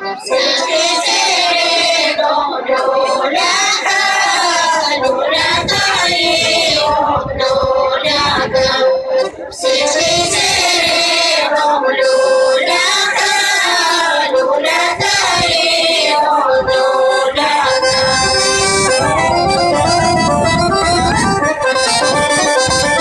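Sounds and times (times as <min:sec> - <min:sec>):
folk group singing long notes: 0:00.0 - 0:23.0.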